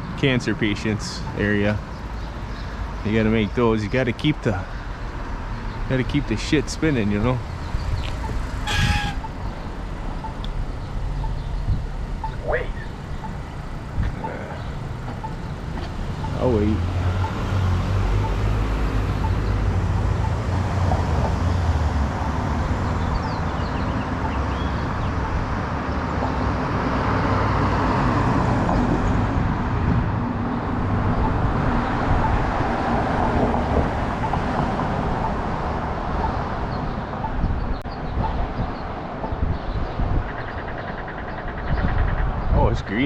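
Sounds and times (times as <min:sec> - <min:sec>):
cars driving past: 0:00.0 - 0:41.2.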